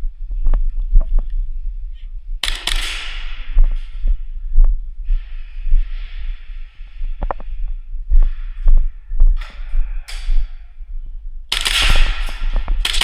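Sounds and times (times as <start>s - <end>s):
dull low thuds: 0.0s - 2.4s, 3.3s - 12.9s.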